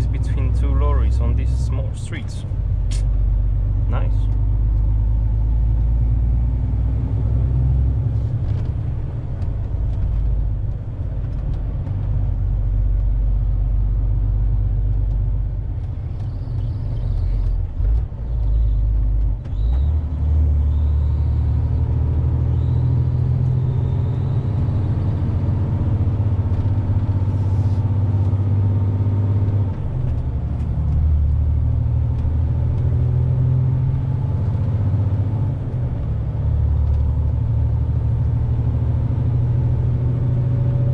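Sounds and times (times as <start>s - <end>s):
road noise: 0.0s - 40.9s
truck diesel engine drone: 0.0s - 40.9s.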